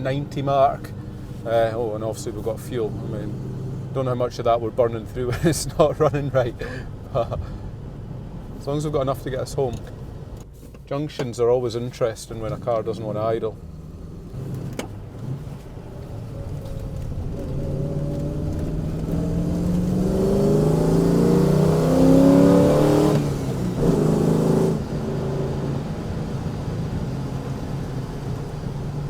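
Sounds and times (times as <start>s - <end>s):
car engine accelerating: 0.0s - 10.5s, 12.2s - 29.0s.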